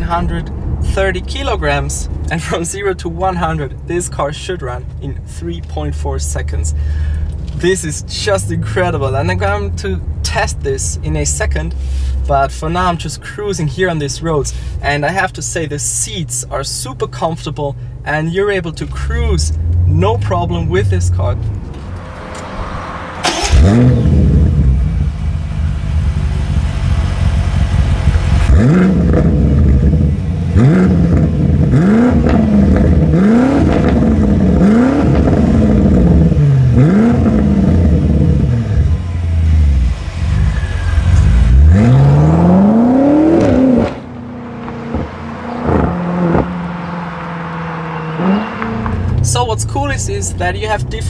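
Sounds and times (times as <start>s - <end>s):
car engine revving: 0.0s - 13.2s, 18.2s - 51.0s.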